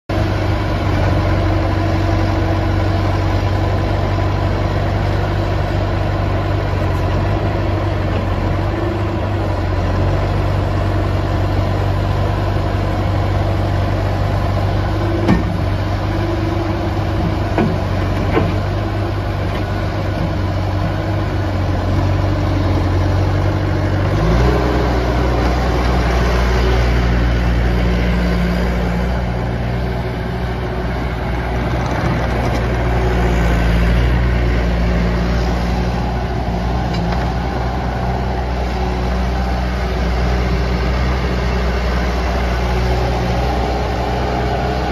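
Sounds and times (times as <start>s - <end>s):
diesel engine idling: 0.1s - 44.9s.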